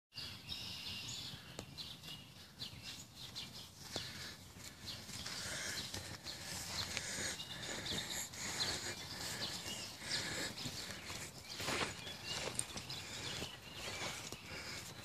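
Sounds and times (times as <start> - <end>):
songbirds chirping: 0.1 - 15.0.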